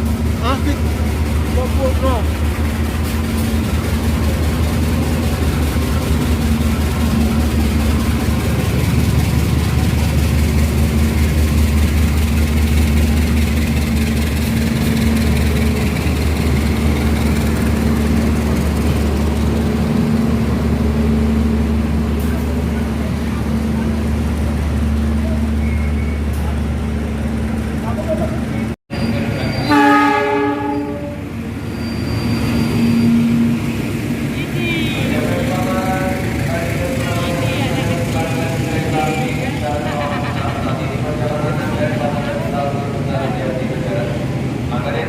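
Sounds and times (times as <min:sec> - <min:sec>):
diesel locomotive engine idling: 0:00.0 - 0:45.0.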